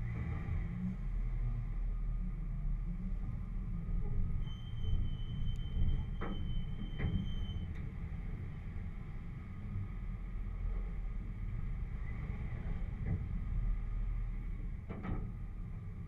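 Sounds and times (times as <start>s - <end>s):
engine rumbling at low speed: 0.0s - 16.0s.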